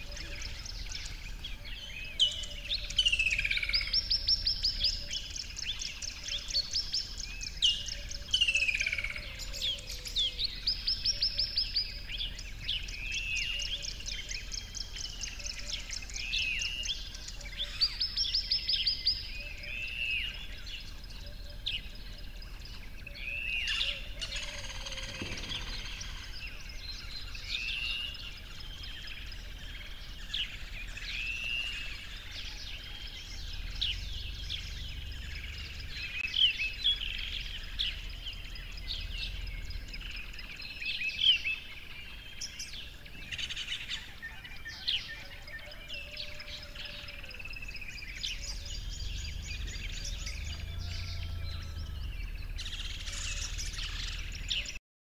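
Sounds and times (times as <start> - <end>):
birds singing: 0.0 - 54.8.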